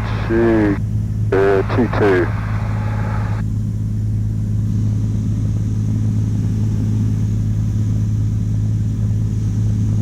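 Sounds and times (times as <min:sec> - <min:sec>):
propeller aircraft engine droning: 0:00.0 - 0:10.0.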